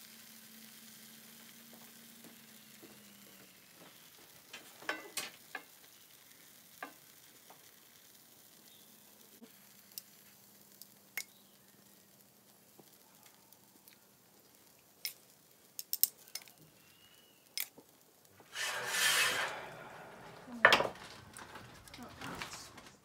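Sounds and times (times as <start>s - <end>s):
faint sizzle: 0.0s - 23.0s.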